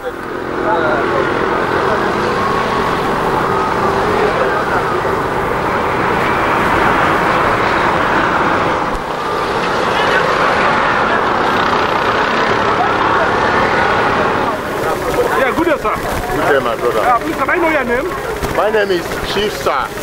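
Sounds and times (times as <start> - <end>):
indistinct voices: 0.0 - 20.0
steady traffic: 0.0 - 20.0.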